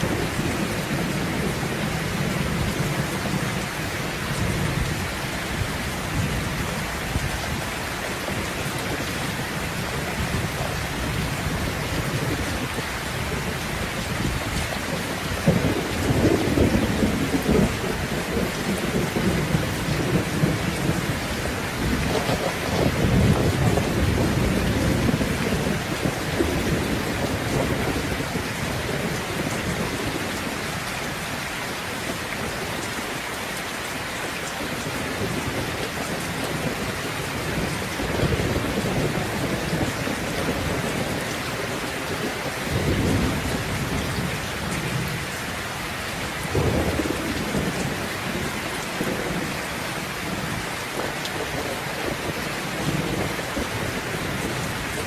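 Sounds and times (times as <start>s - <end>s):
thunder rumbling: 0.0s - 32.9s, 34.5s - 55.0s
heavy rain: 0.0s - 55.0s.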